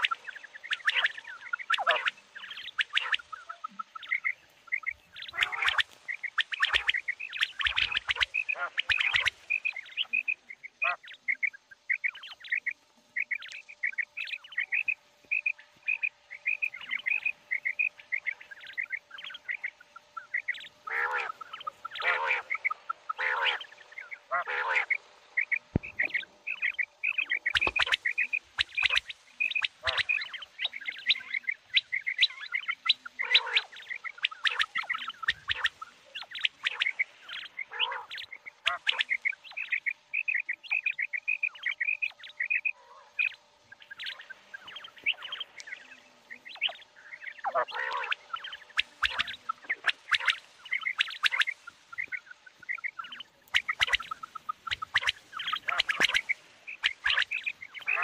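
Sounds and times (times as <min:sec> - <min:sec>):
harsh quail calls: 0:00.0 - 0:58.0
quail chirping: 0:00.0 - 0:58.0.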